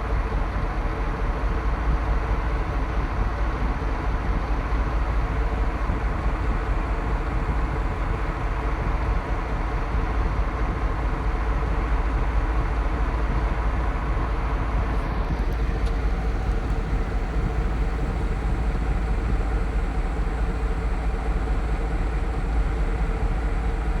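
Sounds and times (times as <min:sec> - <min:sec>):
construction machinery engine rumbling: 0:04.6 - 0:24.0.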